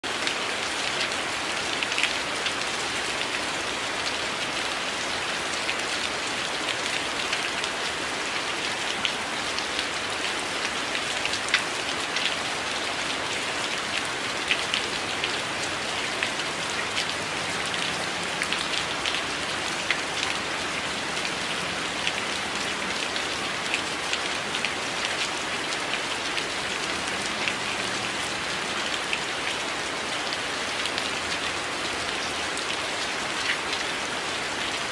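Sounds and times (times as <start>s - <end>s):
rain on a window: 0.0s - 34.9s.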